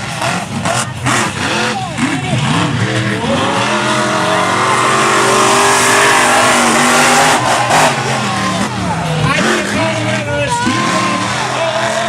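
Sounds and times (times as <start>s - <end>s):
monster truck engines revving high: 0.0s - 12.0s.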